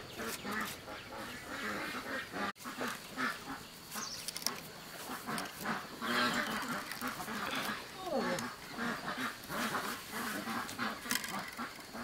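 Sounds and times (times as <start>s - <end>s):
poultry calling: 0.0s - 4.2s, 4.9s - 12.0s.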